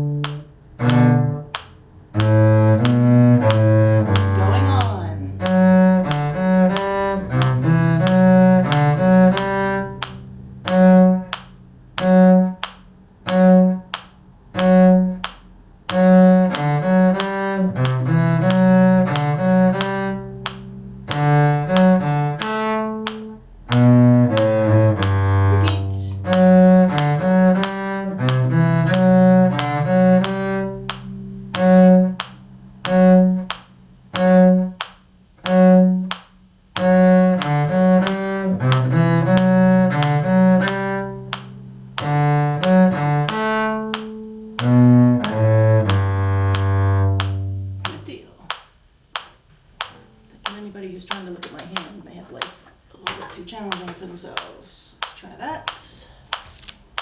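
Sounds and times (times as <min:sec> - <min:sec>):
bowed cello playing a tune: 0:00.0 - 0:48.3.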